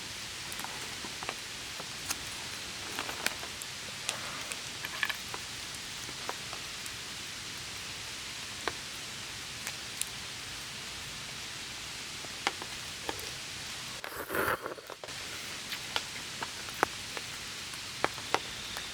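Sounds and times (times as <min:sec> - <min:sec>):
campfire crackling and popping: 0:00.0 - 0:18.9.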